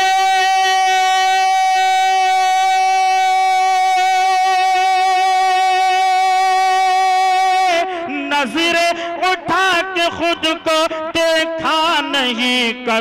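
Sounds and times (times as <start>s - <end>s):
man singing a long note: 0.0s - 13.0s.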